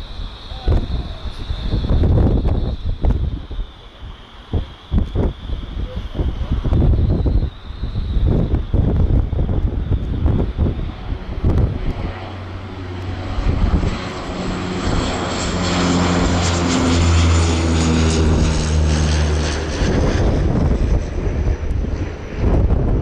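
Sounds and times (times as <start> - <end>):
turboprop plane passing: 0.0 - 23.0
wind noise on microphone: 0.0 - 23.0.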